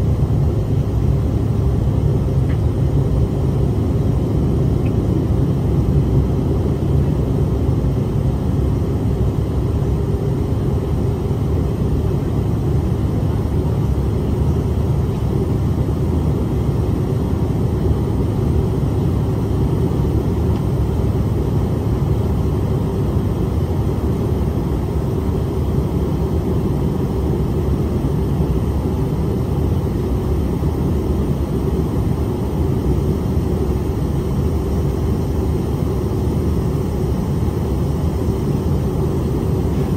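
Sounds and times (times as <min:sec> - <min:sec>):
air rushing along fuselage: 0:00.0 - 0:39.9
aircraft cabin engine drone: 0:00.0 - 0:39.9.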